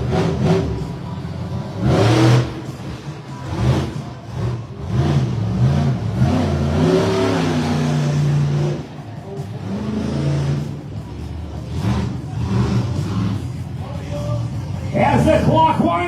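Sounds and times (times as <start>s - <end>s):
truck engine revving: 0.0s - 15.9s.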